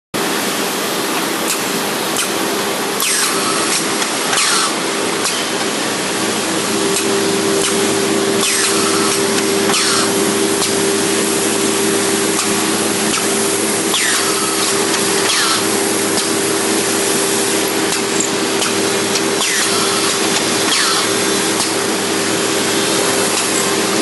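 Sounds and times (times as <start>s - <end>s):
drilling machine motor hum: 1.7s - 24.0s
loud hiss: 2.8s - 24.0s.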